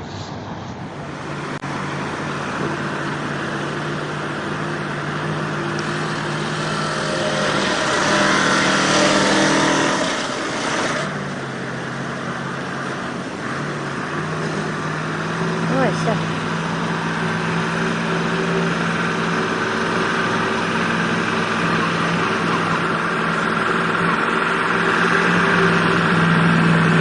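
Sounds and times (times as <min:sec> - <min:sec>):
heavy vehicle engine revving: 0:00.0 - 0:27.0.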